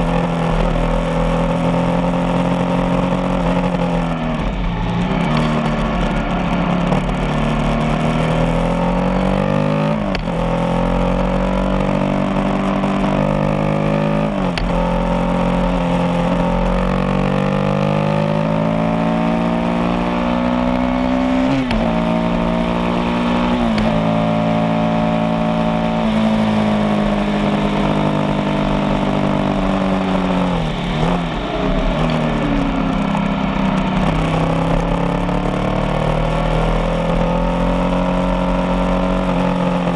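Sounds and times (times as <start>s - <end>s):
motorcycle engine accelerating: 0.0s - 39.9s
road and wind rumble: 0.0s - 39.9s.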